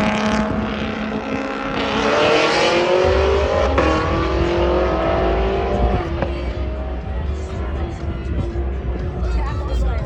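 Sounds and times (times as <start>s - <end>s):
car engine accelerating hard: 0.0s - 9.5s.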